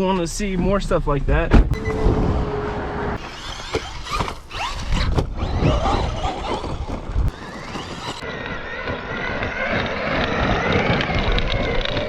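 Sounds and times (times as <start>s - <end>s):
electric motor whining: 1.7s - 12.0s.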